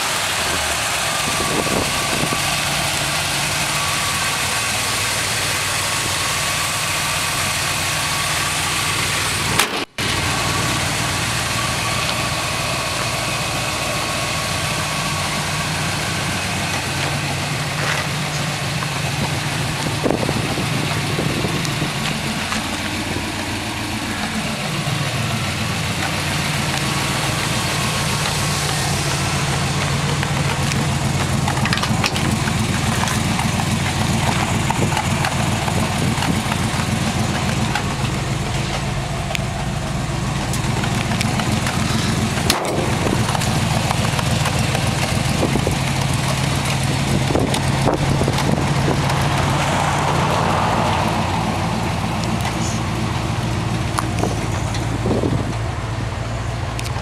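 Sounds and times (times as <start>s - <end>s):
pickup engine idling: 0.0s - 57.0s.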